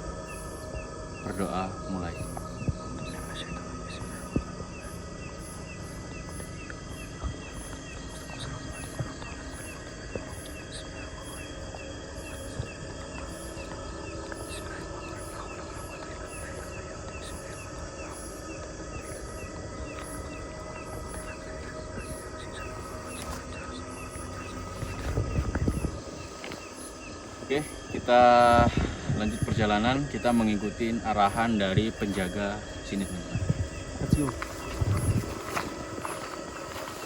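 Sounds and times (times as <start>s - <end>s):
insects chirping in pulses: 0.0s - 37.0s
steady background noise: 0.0s - 37.0s.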